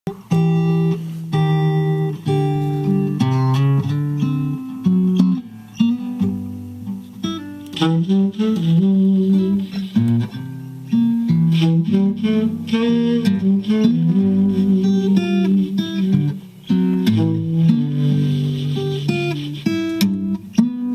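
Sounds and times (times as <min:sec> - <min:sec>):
blues guitar music over car speakers: 0:00.1 - 0:20.9.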